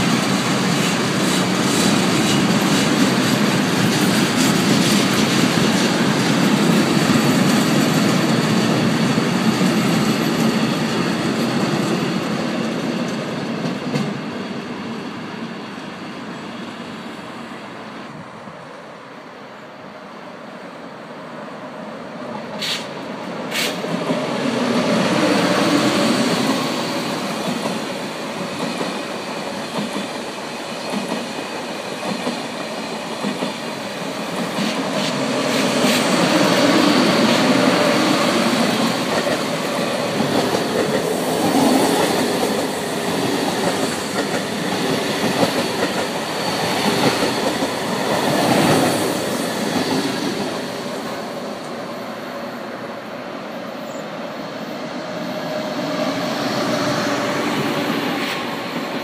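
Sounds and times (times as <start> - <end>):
train wheels rumbling on rail: 0.0 - 19.0, 21.3 - 59.0
electric train running past: 0.0 - 59.0.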